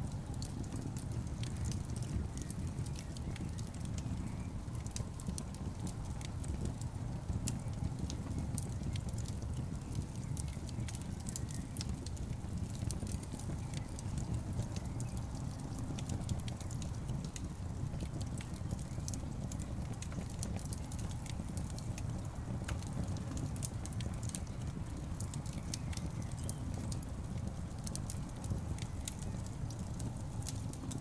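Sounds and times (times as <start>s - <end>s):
low rumble of flames: 0.0s - 31.0s
wood fire crackling: 0.0s - 31.0s.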